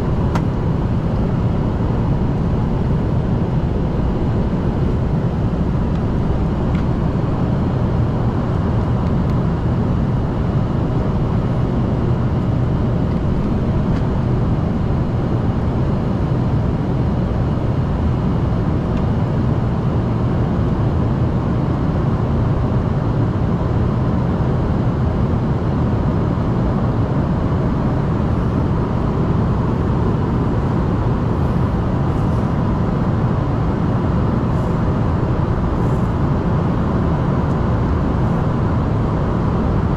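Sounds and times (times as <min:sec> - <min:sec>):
jet cabin engine roar: 0:00.0 - 0:39.9.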